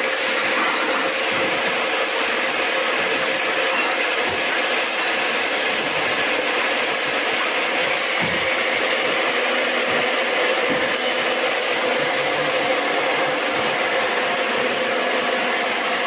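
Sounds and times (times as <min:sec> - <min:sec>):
welding machine hiss: 0:00.0 - 0:16.0.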